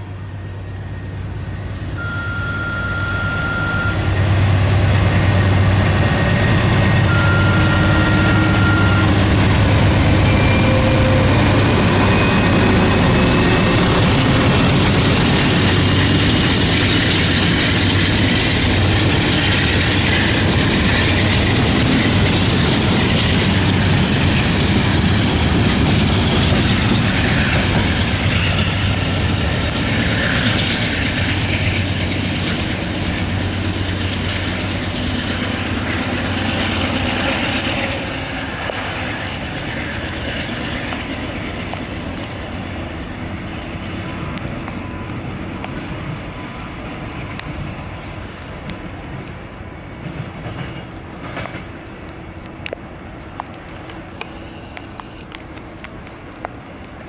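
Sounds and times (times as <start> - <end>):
locomotive engines humming: 0.0 - 57.0
train wheels clicking on rail joints: 3.3 - 57.0.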